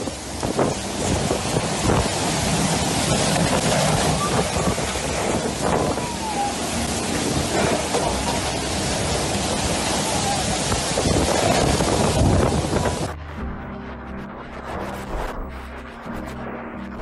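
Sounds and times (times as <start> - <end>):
driving rain: 0.0 - 17.0
storm wind: 0.0 - 17.0.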